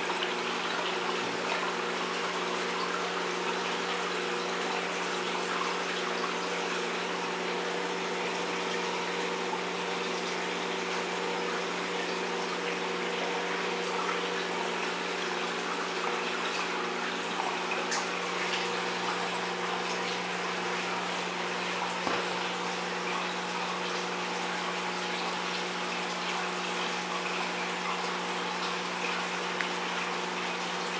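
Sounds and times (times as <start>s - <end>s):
pump humming: 0.0s - 30.9s
water rushing in aquarium filter: 0.0s - 30.9s.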